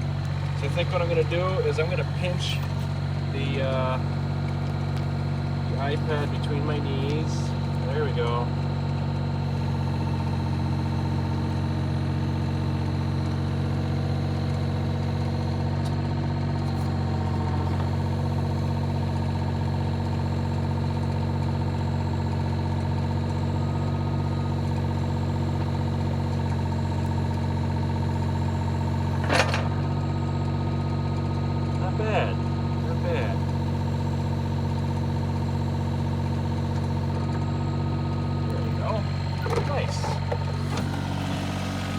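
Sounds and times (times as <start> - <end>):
excavator engine idling: 0.0 - 41.9.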